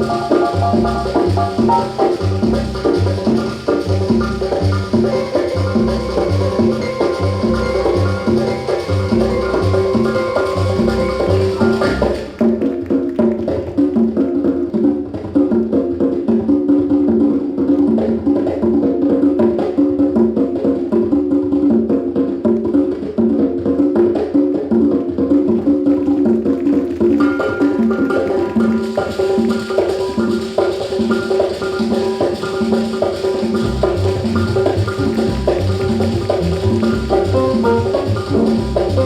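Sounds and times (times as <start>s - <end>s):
dance music with percussive beat: 0.0s - 17.4s, 18.0s - 39.0s.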